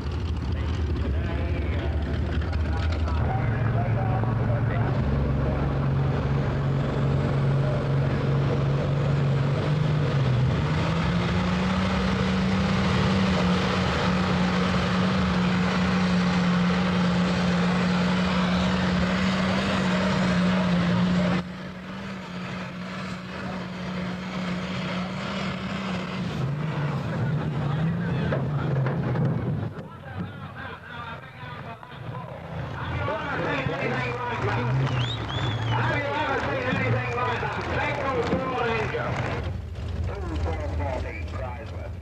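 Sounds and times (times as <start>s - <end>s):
tractor engine droning: 0.0s - 42.0s.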